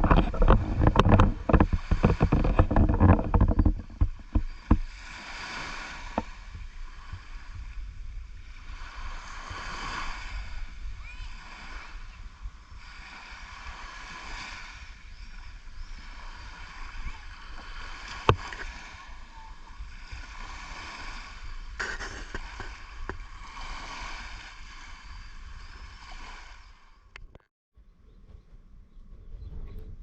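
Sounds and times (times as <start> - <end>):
water washing at shore: 0.0 - 26.9
wind rumble on microphone: 0.0 - 30.0.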